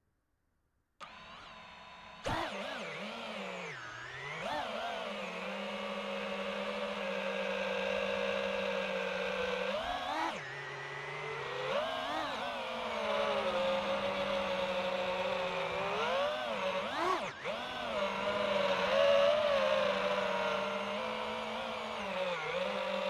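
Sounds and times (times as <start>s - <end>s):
drone propellers whining: 1.0s - 23.0s.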